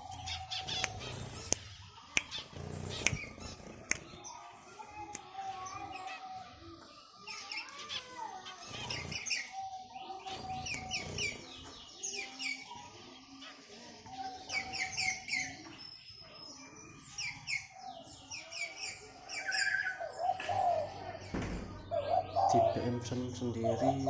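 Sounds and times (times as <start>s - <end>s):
caged birds chirping: 0.0s - 24.0s.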